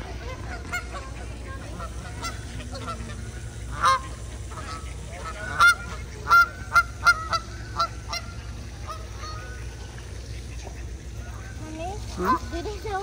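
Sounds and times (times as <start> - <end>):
waterfowl calling: 0.0 - 13.0.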